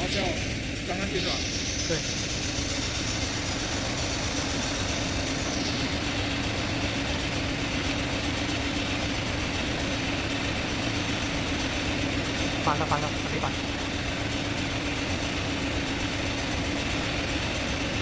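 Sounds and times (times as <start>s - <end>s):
machine hum with hiss: 0.0s - 18.0s.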